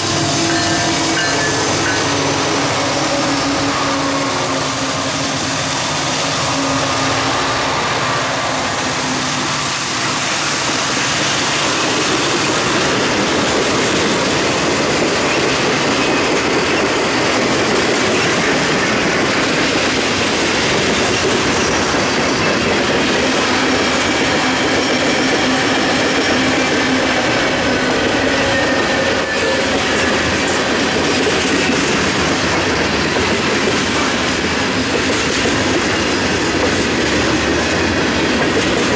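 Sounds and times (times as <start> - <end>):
diesel locomotives passing: 0.0 - 38.9
train wheels running on rails: 0.0 - 38.9.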